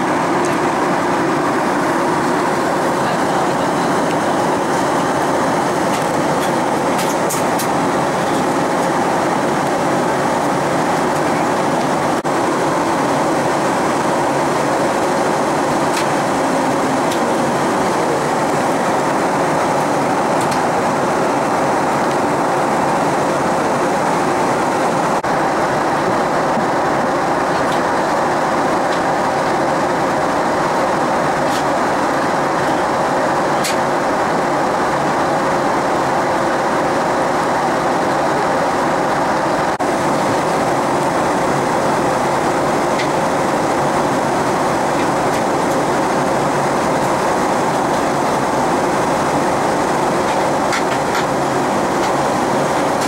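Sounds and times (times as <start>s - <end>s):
air rushing along fuselage: 0.0s - 53.0s
jet engines humming: 0.0s - 53.0s.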